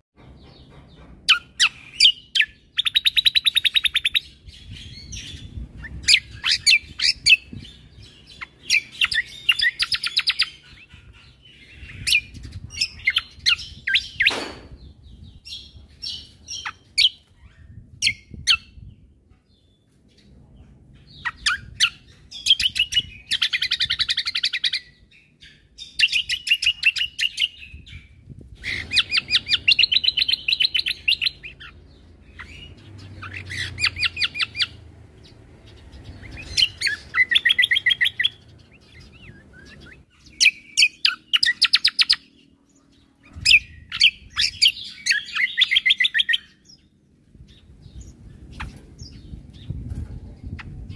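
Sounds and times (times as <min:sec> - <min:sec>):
songbird trilling: 0:01.3 - 0:18.9, 0:21.2 - 0:34.9, 0:35.8 - 0:49.8.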